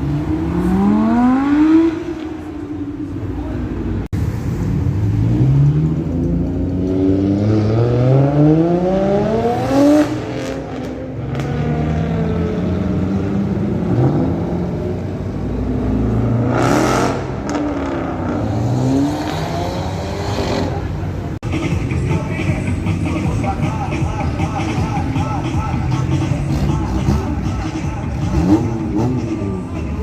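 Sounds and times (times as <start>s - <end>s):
sports car engine accelerating: 0.0s - 21.3s, 24.4s - 30.0s.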